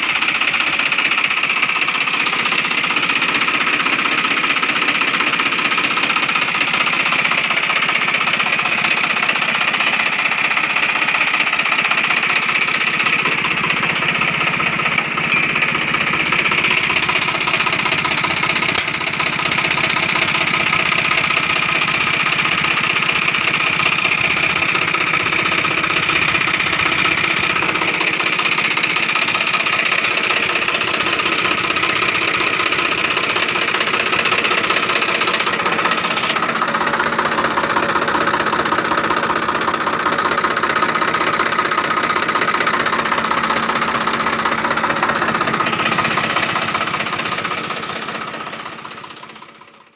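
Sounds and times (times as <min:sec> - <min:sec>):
tractor diesel engine idling: 0:00.0 - 0:49.9.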